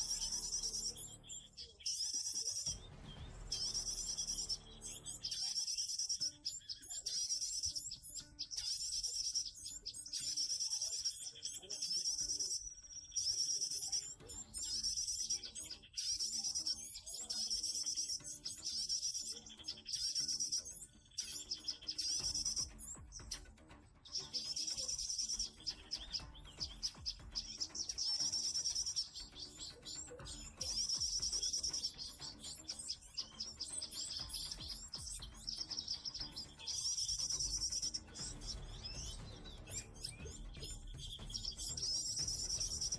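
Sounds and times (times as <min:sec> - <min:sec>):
bird chirping: 0:00.0 - 0:42.9.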